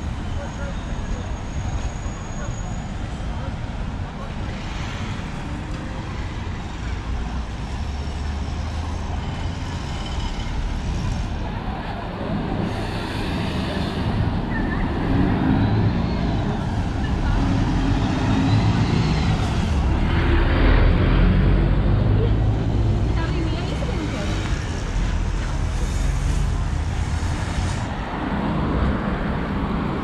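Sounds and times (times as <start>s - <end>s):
bus passing: 0.0s - 30.0s
road traffic rumble: 0.0s - 30.0s.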